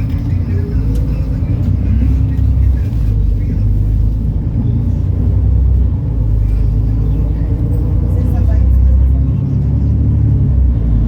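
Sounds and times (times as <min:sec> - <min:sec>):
bus diesel engine rumble: 0:00.0 - 0:11.0.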